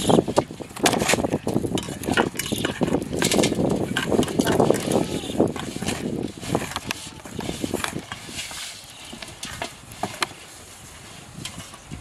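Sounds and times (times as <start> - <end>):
hands kneading wet bait: 0.0 - 12.0.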